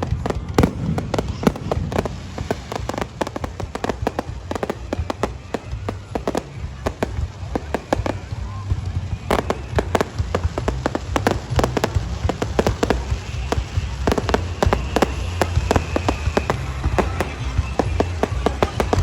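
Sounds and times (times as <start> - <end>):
fireworks crackling pops: 0.0 - 19.0
low rumble of bursts: 0.0 - 19.0.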